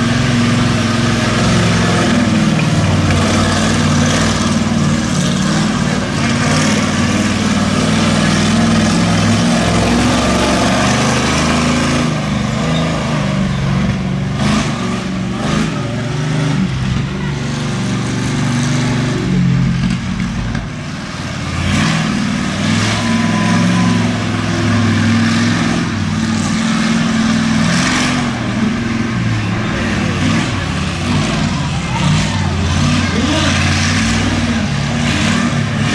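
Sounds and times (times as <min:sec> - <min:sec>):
monster truck engine revving: 0:00.0 - 0:35.9.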